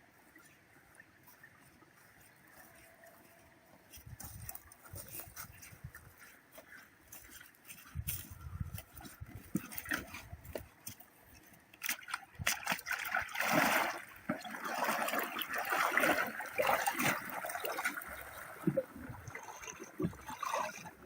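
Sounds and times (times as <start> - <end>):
water splashing and trickling: 0.1 - 21.0.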